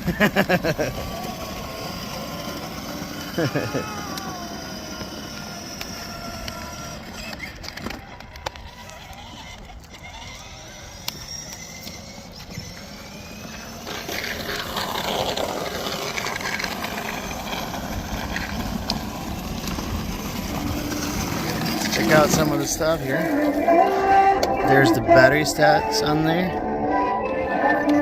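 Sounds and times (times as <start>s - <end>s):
toy car motor and wheels rumbling: 0.0s - 28.0s.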